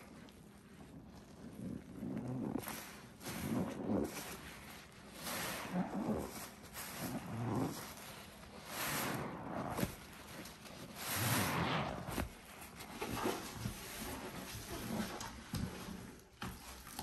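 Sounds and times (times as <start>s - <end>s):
sponge squelching in soapy foam: 0.0s - 17.0s.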